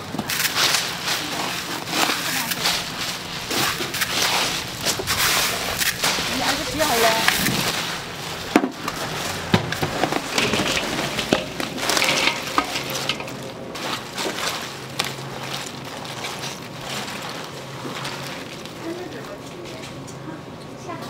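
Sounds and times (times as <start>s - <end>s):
utensils clacking: 0.0s - 20.1s.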